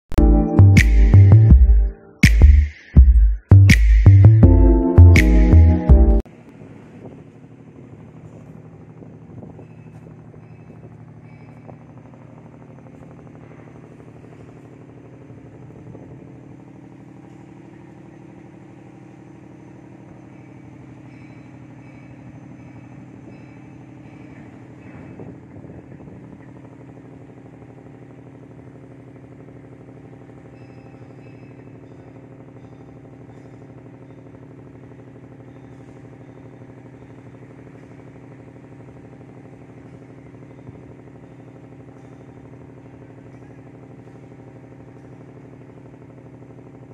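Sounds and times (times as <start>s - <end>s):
engine running steadily: 0.1s - 46.9s.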